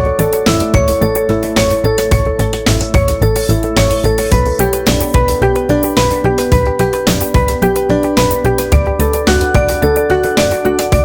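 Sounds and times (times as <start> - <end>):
electronic music with quick beat: 0.0 - 11.0.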